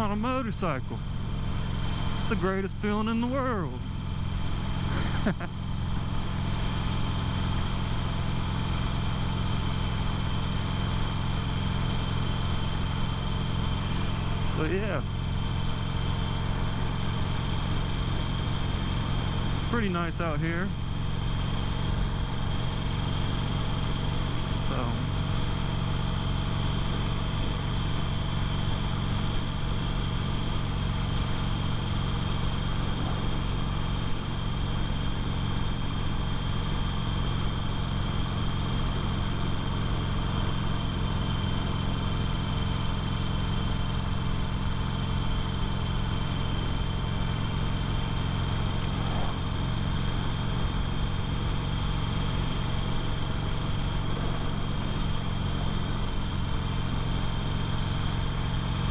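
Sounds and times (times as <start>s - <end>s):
motorcycle engine cruising: 0.0s - 58.9s
wind and road noise: 0.0s - 58.9s.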